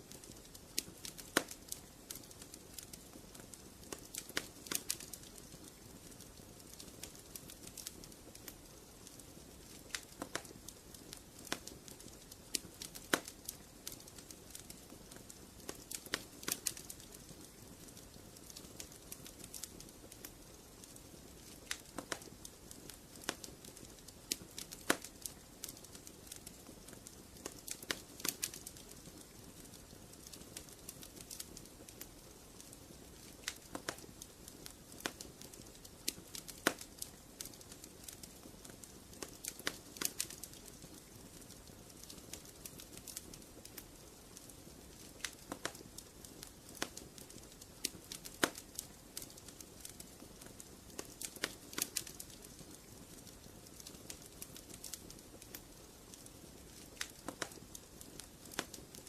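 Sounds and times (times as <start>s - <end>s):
fire pops and snaps: 0.0s - 59.0s
wood fire crackling: 0.0s - 59.0s.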